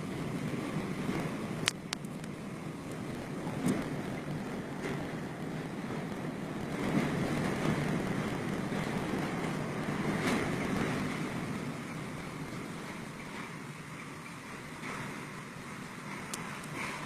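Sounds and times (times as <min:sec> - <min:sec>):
wind gusting hard: 0:00.0 - 0:17.0.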